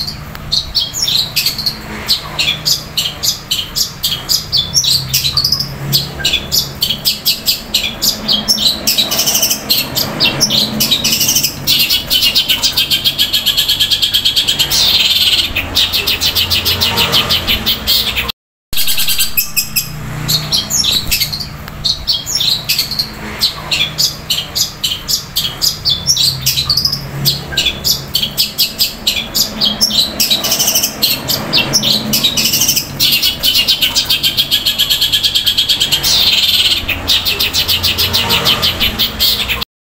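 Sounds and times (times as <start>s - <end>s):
bird chattering song: 0.0s - 39.6s.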